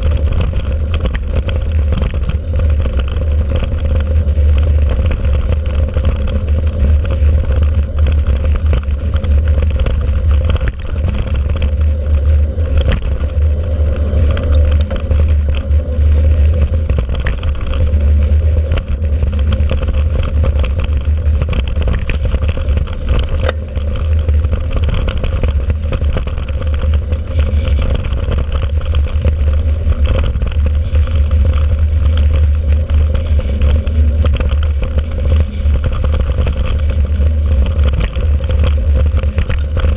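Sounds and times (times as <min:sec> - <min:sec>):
bike clicks and rattles: 0:00.0 - 0:39.9.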